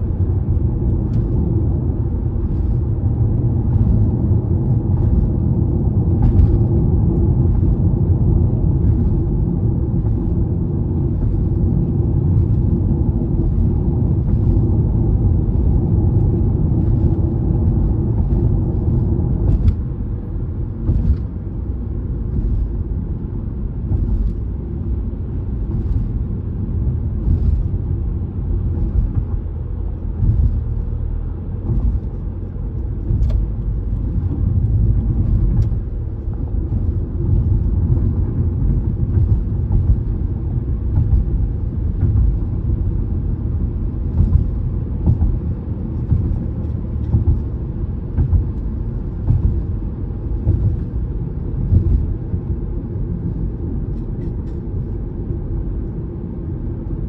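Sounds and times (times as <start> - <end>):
tyre and road rumble: 0.0 - 57.0.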